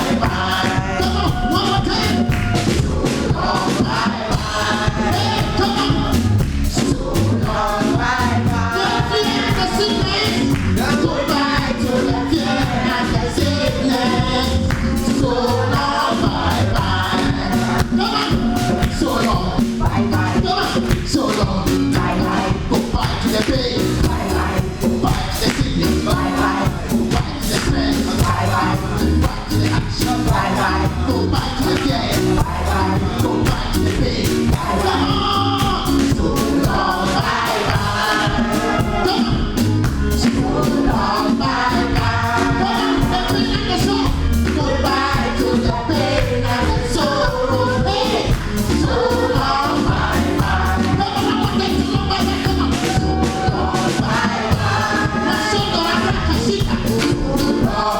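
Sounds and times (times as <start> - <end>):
band accompaniment: 0.0 - 57.9
gospel choir singing: 0.0 - 57.9
steady drum beat: 0.0 - 57.9.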